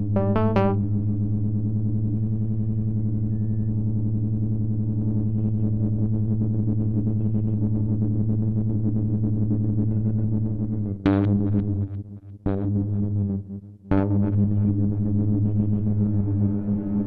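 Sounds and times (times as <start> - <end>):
synthesizer low chord: 0.0 - 17.0.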